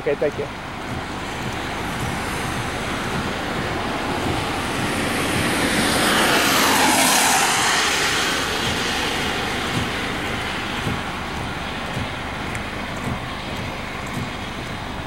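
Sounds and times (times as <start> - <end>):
steady traffic noise: 0.0 - 15.0
vehicle passing on wet road: 0.0 - 15.0.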